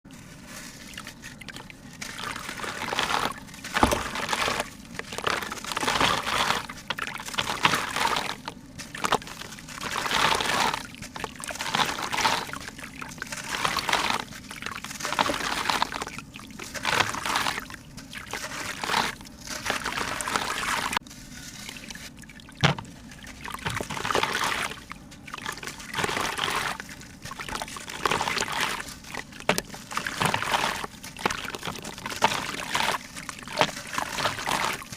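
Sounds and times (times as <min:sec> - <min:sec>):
liquid pouring and splashing: 0:00.2 - 0:34.9.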